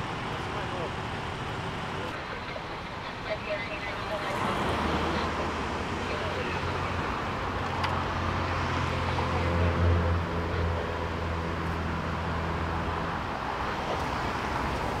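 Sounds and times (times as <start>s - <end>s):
faint road noise: 0.0s - 15.0s.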